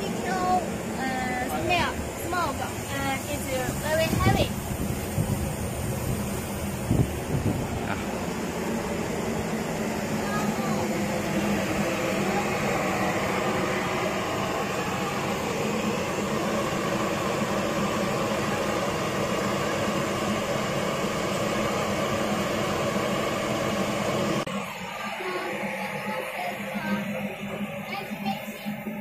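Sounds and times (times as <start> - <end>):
exhaust blower rushing air: 0.0 - 29.0.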